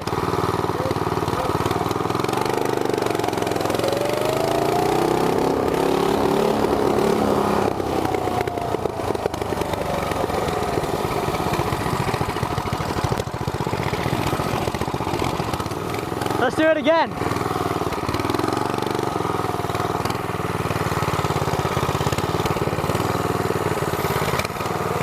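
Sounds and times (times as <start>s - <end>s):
go-kart engines at full throttle: 0.0s - 25.0s.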